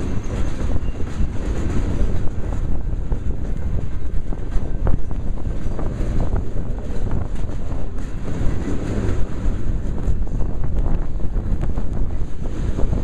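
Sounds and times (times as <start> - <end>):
train wheels rumbling on rails: 0.0 - 13.0
wind buffeting microphone: 0.0 - 13.0.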